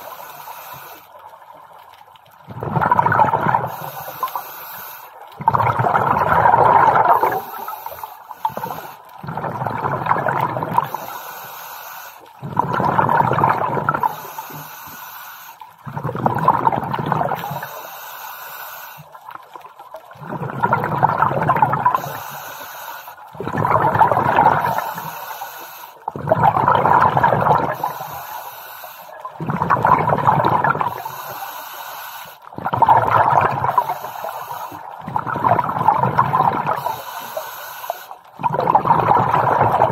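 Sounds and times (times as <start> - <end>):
scuba regulator exhaust bubbles: 0.0 - 1.5, 2.2 - 39.9.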